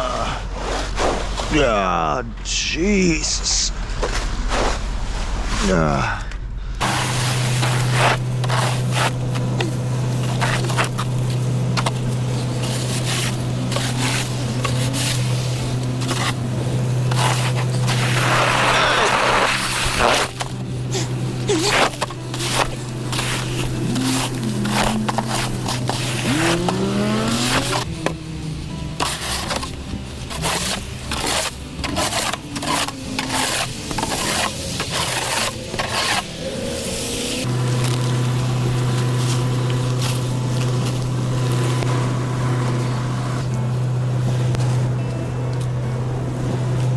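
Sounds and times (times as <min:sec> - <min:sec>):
plow scraping wet snow: 0:06.8 - 0:46.9
snow plow truck droning: 0:06.8 - 0:46.9.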